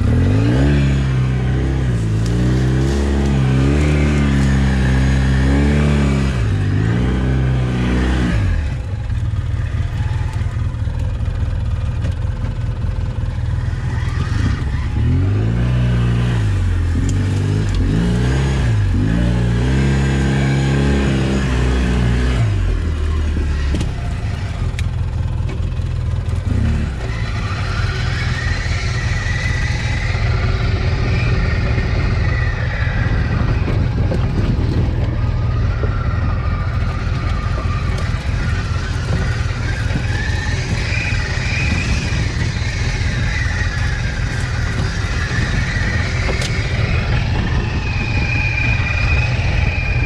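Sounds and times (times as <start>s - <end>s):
off-road vehicle engine rumble: 0.0s - 50.0s.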